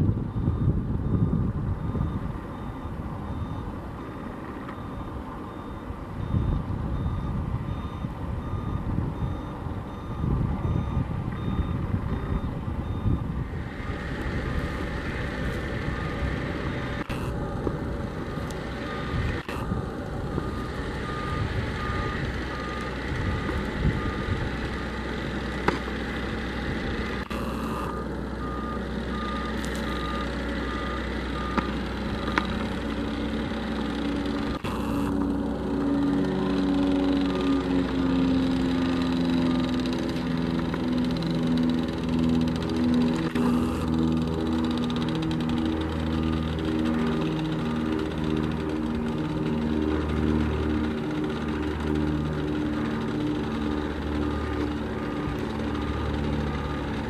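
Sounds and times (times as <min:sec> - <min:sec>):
low running engine: 0:00.0 - 0:57.0
vehicle backup alarm beeping: 0:00.0 - 0:57.0.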